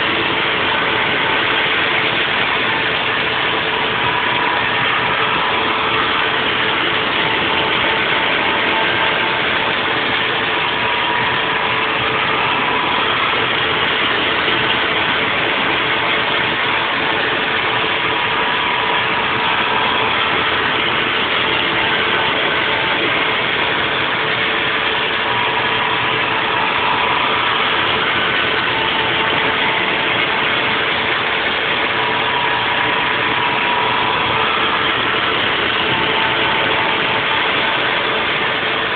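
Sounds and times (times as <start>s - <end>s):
high machine whine: 0.0s - 38.9s
milling machine cutting: 0.0s - 38.9s.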